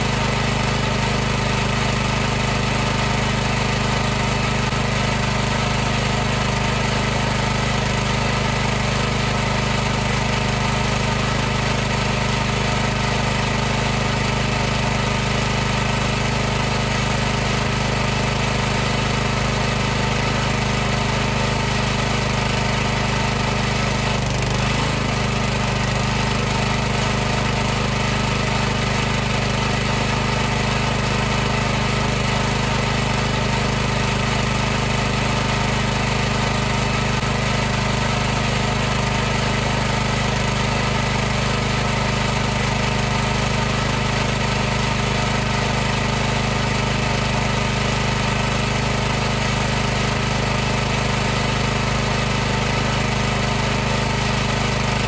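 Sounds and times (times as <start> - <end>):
pressure washer motor and pump: 0.0 - 55.0.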